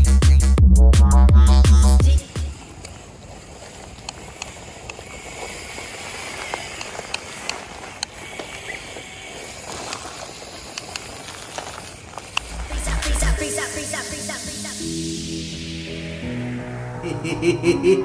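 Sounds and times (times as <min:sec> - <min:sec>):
steady hiss: 0:02.1 - 0:16.7.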